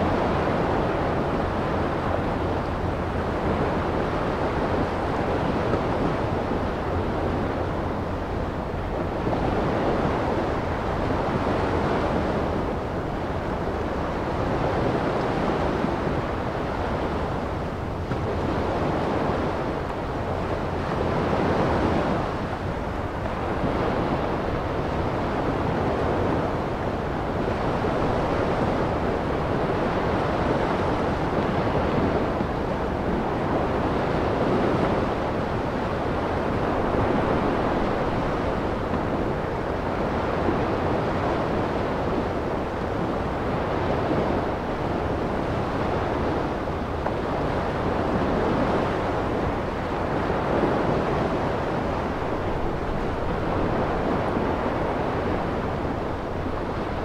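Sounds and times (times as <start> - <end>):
small waves washing onto sand: 0.0 - 57.0.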